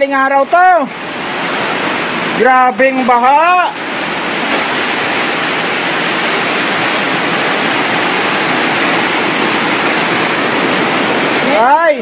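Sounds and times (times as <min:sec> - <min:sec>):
heavy rain and floodwater rushing: 0:00.0 - 0:12.0.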